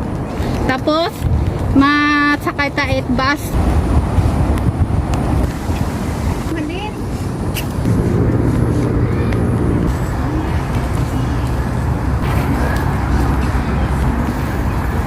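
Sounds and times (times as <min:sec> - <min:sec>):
low road rumble: 0:00.0 - 0:15.0
vehicle engine humming: 0:00.0 - 0:15.0.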